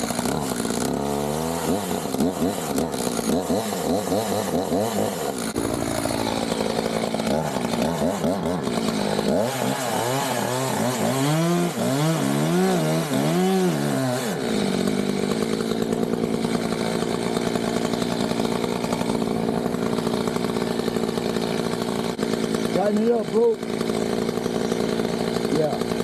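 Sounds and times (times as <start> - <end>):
chainsaw running at high speed: 0.0 - 26.0.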